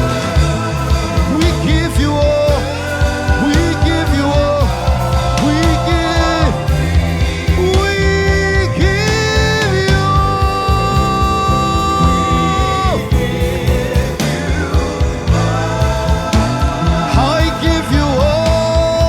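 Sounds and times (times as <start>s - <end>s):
gospel band playing: 0.0s - 19.0s
person singing sustained notes: 0.0s - 19.0s.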